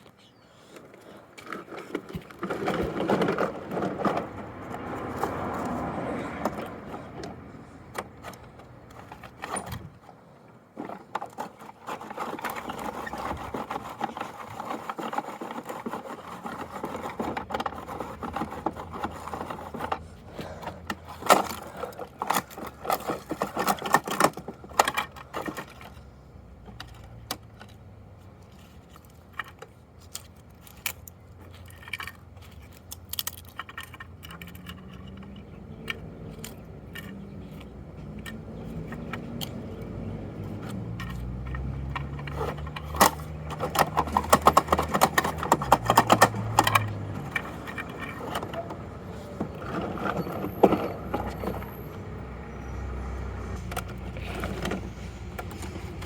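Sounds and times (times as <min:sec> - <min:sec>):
toy truck plastic clicking and rattling: 0:00.0 - 0:56.0.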